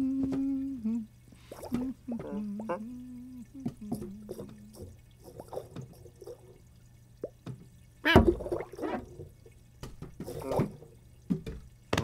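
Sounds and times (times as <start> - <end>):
water drips and plops: 0.2 - 12.0.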